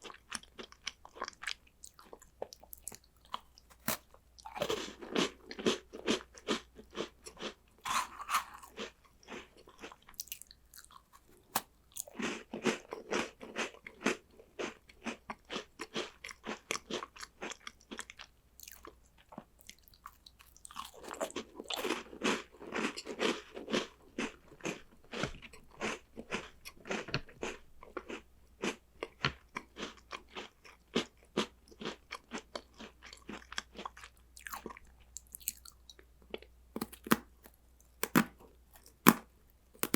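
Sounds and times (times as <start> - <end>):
crunching and chewing snacks: 0.0 - 39.9.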